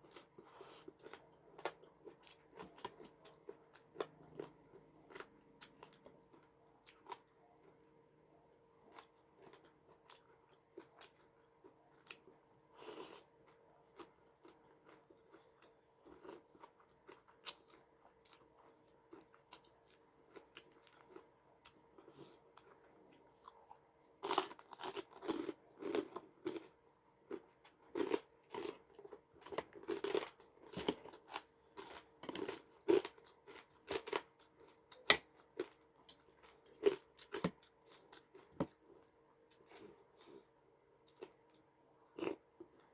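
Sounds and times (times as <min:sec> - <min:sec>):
person chewing crunchy food: 0:00.0 - 0:07.8, 0:08.9 - 0:42.9
faint steady hum: 0:00.0 - 0:42.9.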